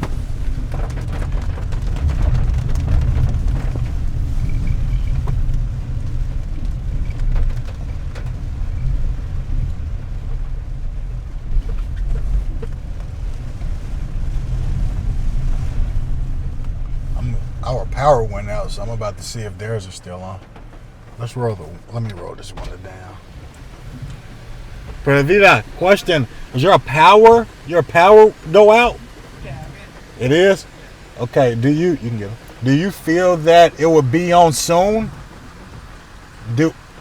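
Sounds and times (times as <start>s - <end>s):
engine and road noise inside car: 0.0s - 37.0s.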